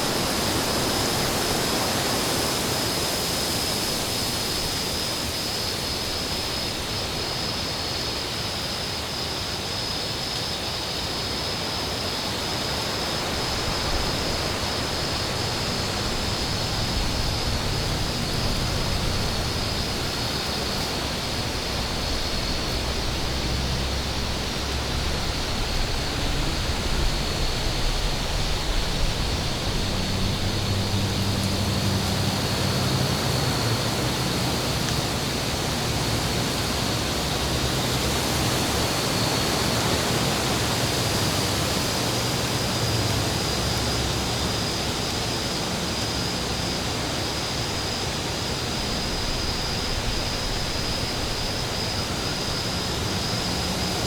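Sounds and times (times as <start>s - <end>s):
steady wind noise: 0.0s - 54.0s.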